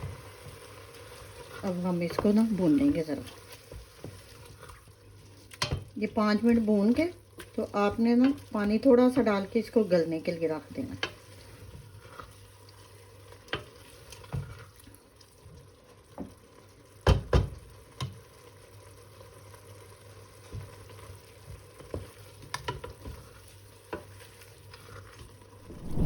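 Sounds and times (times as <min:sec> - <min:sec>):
faint sizzle: 0:00.0 - 0:22.5.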